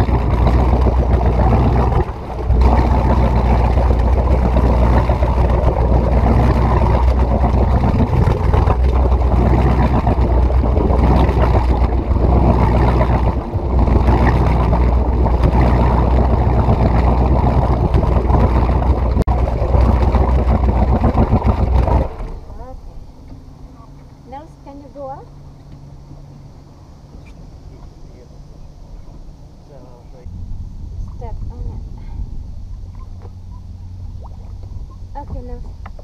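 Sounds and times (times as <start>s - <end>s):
boat engine idling: 0.0s - 36.0s.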